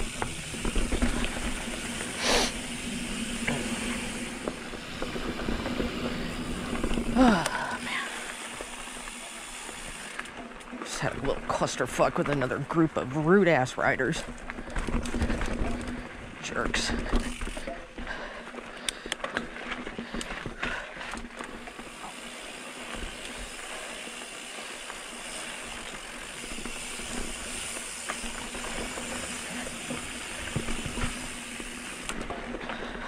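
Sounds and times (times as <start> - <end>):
bike tyres hissing on dirt: 0.0 - 11.6, 13.7 - 33.0
bike rattling and clicking: 0.0 - 33.0.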